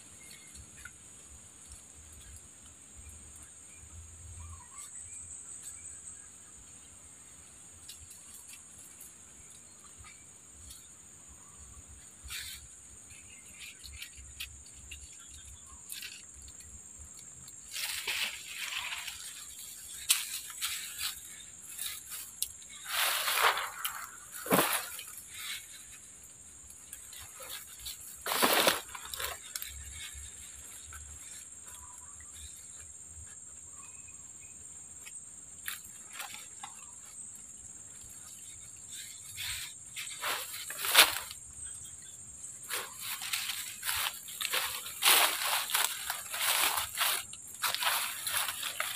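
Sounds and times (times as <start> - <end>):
insects droning: 0.0 - 48.9
rustling in vegetation: 0.0 - 48.9.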